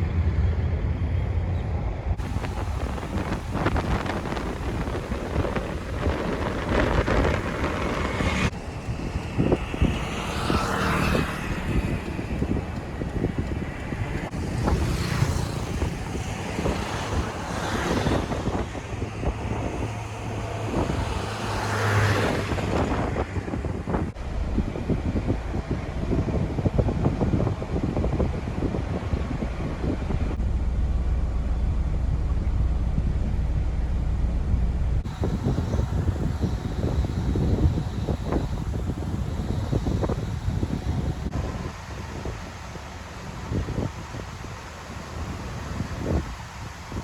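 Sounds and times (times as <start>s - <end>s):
construction vehicle engines running: 0.0s - 47.0s
wind rumbling on microphone: 0.0s - 47.0s.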